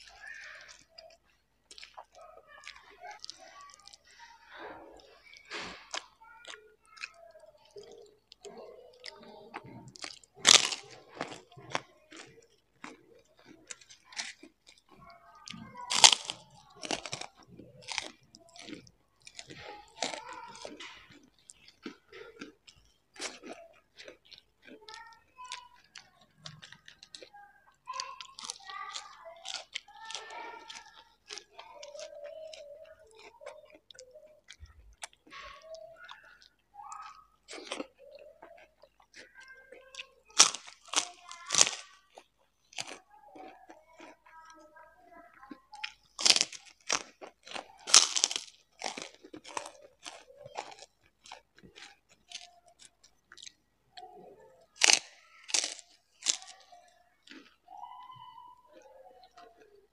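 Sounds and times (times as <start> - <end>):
crunchy bites and chewing: 0.0 - 4.4, 5.1 - 27.3, 28.1 - 44.6, 45.8 - 53.6, 54.6 - 57.6.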